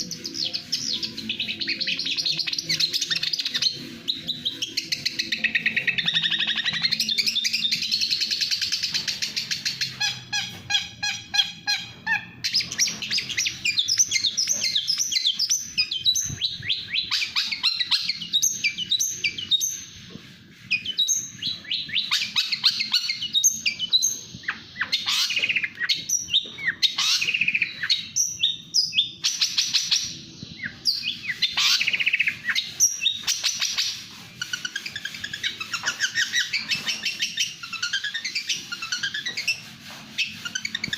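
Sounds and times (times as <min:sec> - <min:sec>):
shrike singing trills and chirps: 0:00.0 - 0:40.9.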